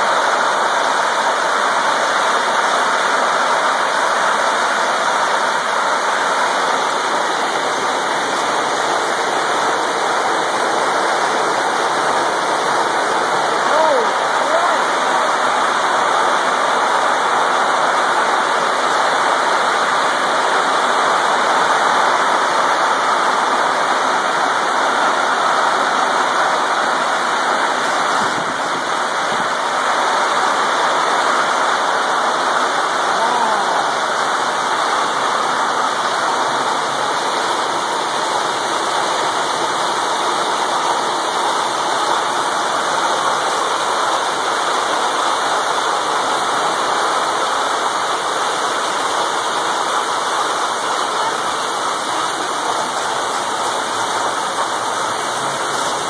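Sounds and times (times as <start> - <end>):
hail and rain pelting: 0.0 - 56.0.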